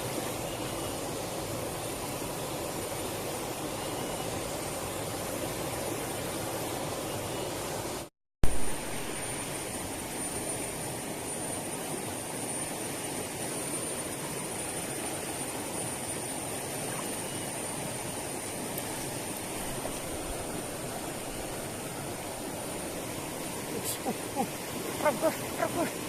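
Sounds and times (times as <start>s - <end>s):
river water flowing: 0.0s - 26.0s
thin high steady tone: 0.0s - 26.0s.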